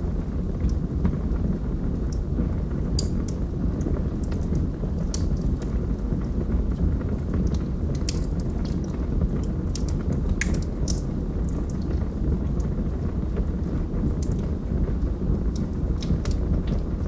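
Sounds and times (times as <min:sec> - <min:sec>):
fire crackles and pops: 0:00.0 - 0:17.0
fireplace flame rushing: 0:00.0 - 0:17.0.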